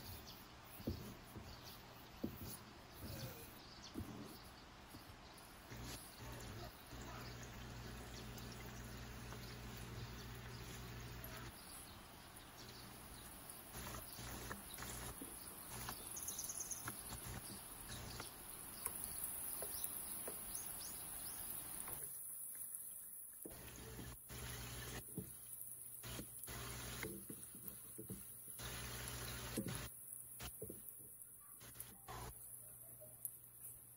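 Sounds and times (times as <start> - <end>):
oil sizzling with crackling pops: 0.0 - 33.9.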